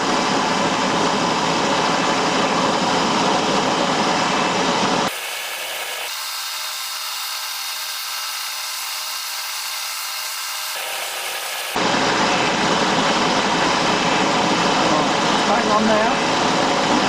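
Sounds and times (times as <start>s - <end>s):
milling machine whirring: 0.0s - 17.0s.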